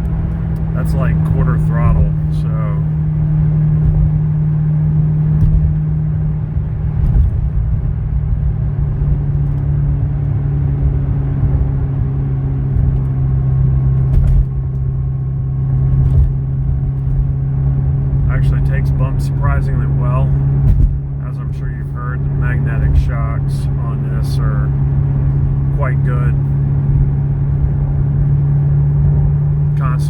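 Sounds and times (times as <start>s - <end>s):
car engine drone: 0.0s - 30.0s
road rumble: 0.0s - 30.0s.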